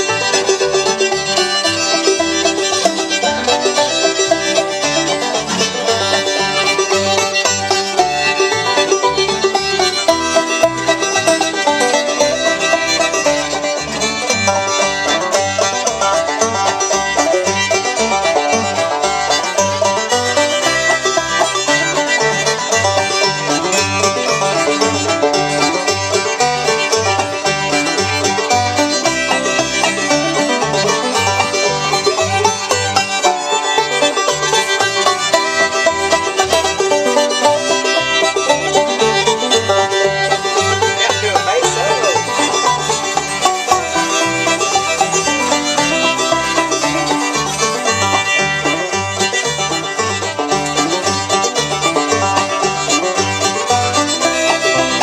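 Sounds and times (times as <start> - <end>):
banjo lead: 0.0 - 55.0
string band playing: 0.0 - 55.0.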